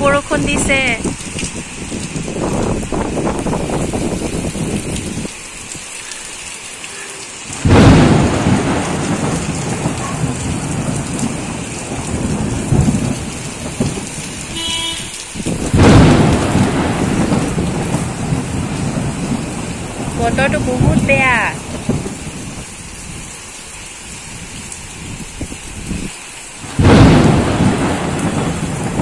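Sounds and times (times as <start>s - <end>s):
heavy rain on concrete: 0.0s - 29.0s.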